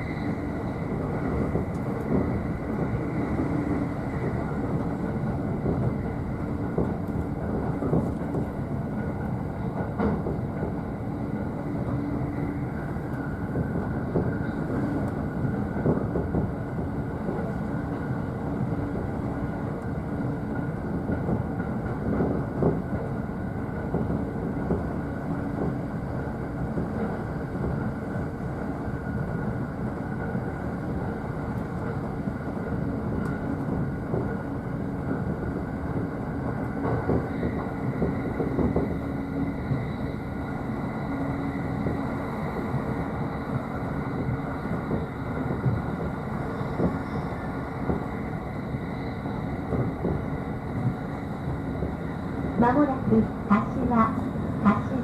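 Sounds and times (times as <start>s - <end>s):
rail-joint clicks: 0.0s - 55.0s
train running rumble and hum: 0.0s - 55.0s.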